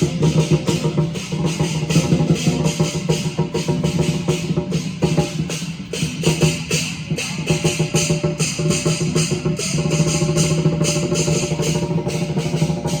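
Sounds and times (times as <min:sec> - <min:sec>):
crashing cymbals: 0:00.0 - 0:13.0
drum beating fast rhythm: 0:00.0 - 0:13.0.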